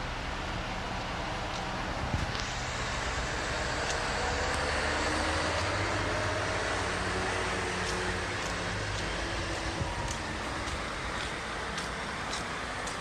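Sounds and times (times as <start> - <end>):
road noise: 0.0 - 13.0
vehicle passing with low hum: 0.0 - 13.0.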